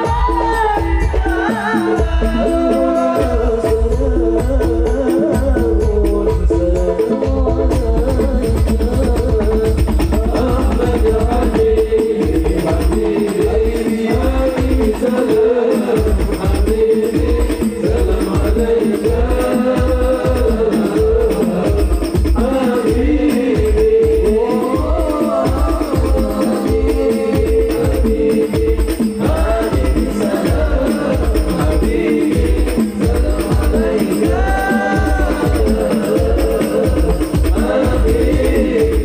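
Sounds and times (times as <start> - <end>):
drum beat: 0.0 - 39.0
jingling percussion: 0.0 - 39.0
men singing amplified: 0.0 - 39.0.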